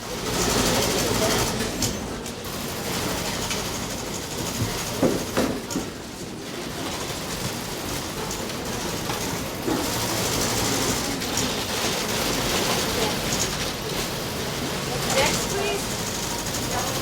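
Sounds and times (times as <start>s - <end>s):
busy room noise: 0.0s - 17.0s
faint mechanical clatter: 0.0s - 17.0s.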